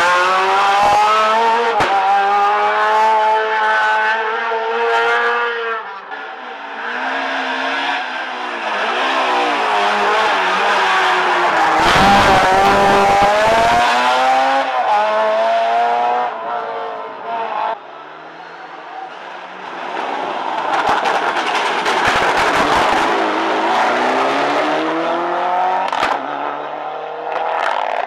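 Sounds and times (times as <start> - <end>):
rally car engine revving: 0.0 - 17.8, 19.6 - 28.0.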